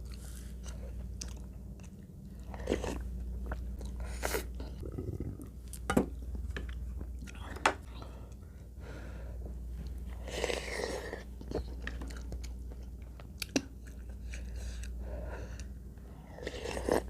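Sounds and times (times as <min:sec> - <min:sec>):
person chewing food: 0:00.0 - 0:08.4, 0:09.8 - 0:17.0.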